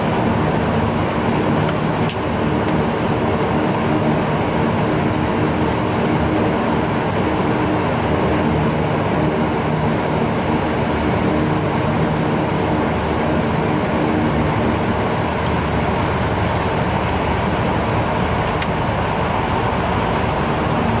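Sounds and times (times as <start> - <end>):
turboprop engines droning: 0.0 - 21.0.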